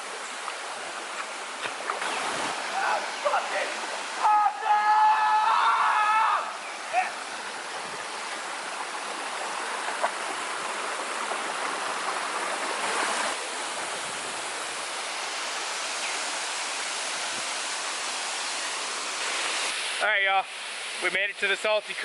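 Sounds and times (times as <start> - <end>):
waterfall and river rushing: 0.0 - 22.0.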